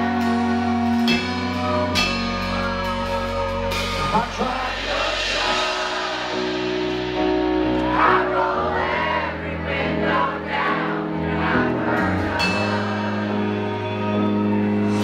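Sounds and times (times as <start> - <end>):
country band playing slow song: 0.0 - 15.0
several voices singing: 2.6 - 15.0.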